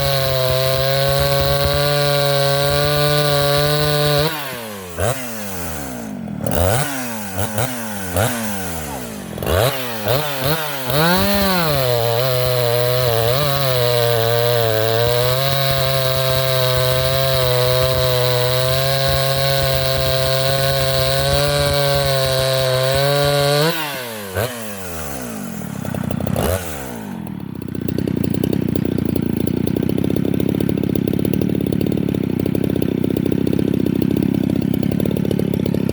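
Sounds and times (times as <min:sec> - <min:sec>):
chainsaw engine revving: 0:00.0 - 0:35.9.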